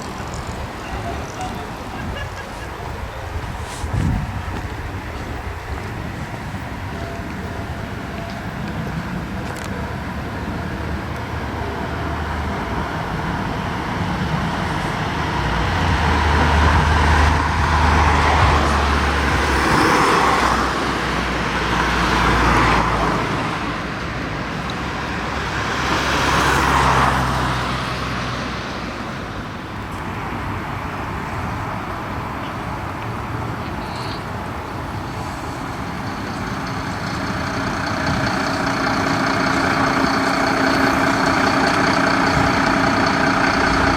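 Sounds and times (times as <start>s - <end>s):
vehicles driving past: 0.0s - 43.9s.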